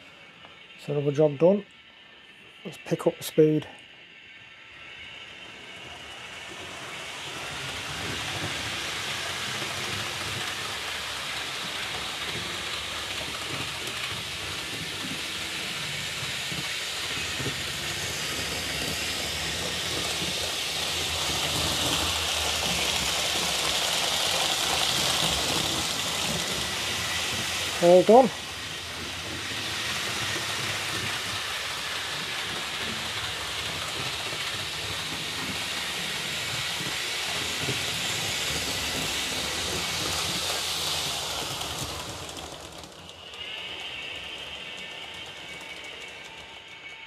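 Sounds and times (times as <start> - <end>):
model train running on rails: 0.0 - 47.0.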